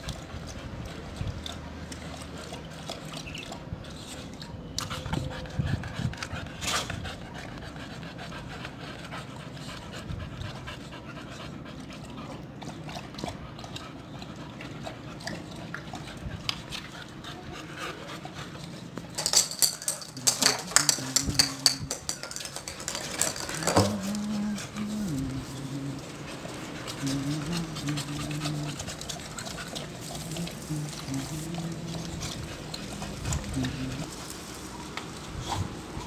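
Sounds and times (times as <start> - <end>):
dogs panting: 0.0 - 36.0
puppy lapping water: 0.0 - 36.0.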